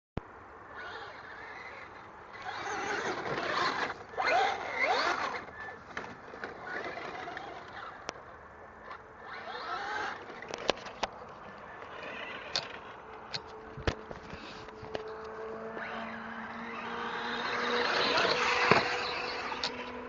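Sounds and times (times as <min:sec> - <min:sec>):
rc truck drivetrain whine: 0:00.6 - 0:20.0.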